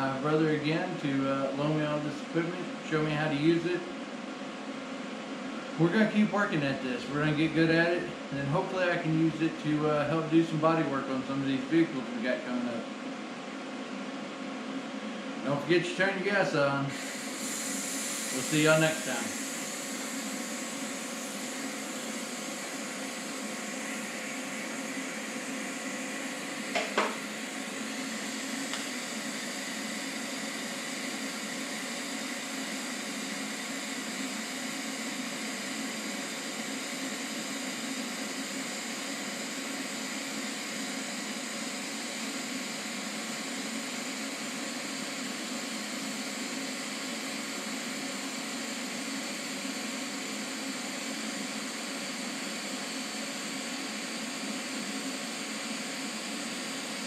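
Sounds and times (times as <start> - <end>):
machinery humming and hissing: 0.0 - 57.0.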